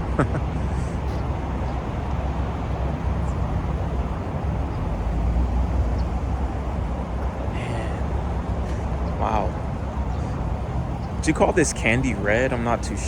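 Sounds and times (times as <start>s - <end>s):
car engines idling: 0.0s - 13.0s
traffic noise: 0.0s - 13.0s.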